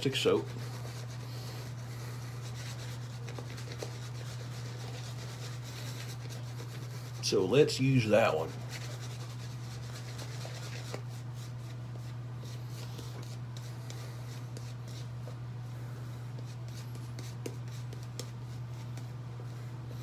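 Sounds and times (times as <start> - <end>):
shaving brush scratchy strokes: 0.0 - 20.0
steady low hum: 0.0 - 20.0.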